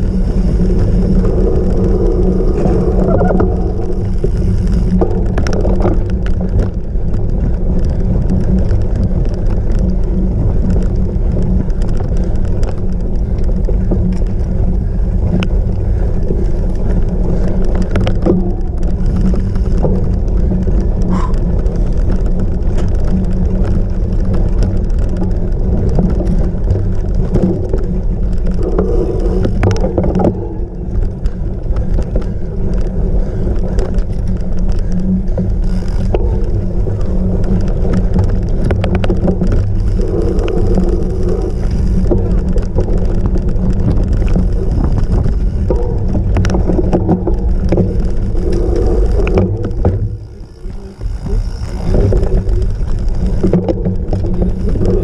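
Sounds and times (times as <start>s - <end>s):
bike clicks and rattles: 0.0s - 55.0s
wind and tyre rumble: 0.0s - 55.0s.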